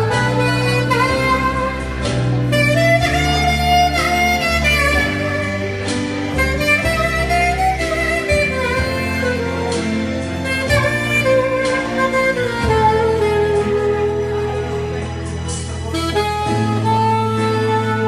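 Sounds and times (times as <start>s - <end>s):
backing track with bass line: 0.0s - 18.0s
saxophone melody: 0.0s - 18.0s.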